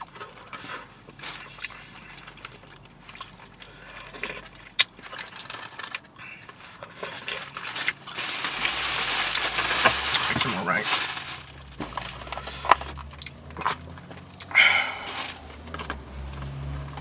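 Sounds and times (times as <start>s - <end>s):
person chewing food: 0.0s - 10.2s, 11.6s - 16.6s.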